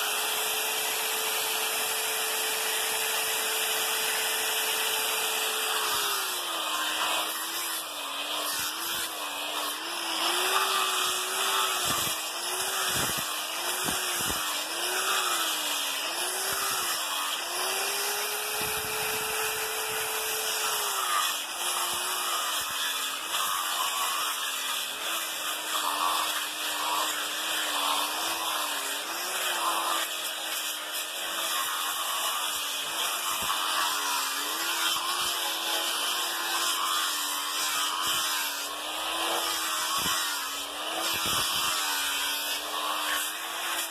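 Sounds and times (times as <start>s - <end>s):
angle grinder sanding wood: 0.0s - 43.9s.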